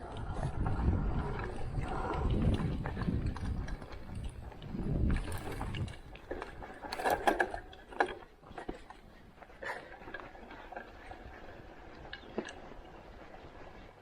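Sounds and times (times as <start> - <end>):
bicycle rattling and clicking: 0.0 - 14.0.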